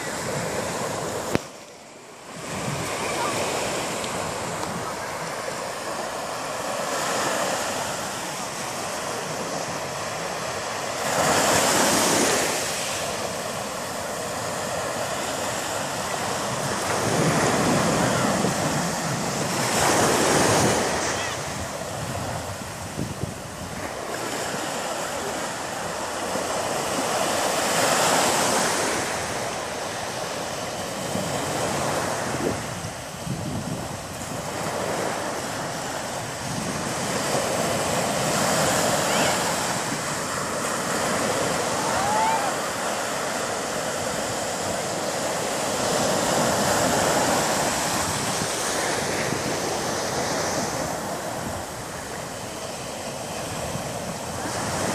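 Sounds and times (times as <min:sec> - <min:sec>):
surf breaking on a sandy beach: 0:00.0 - 0:54.9.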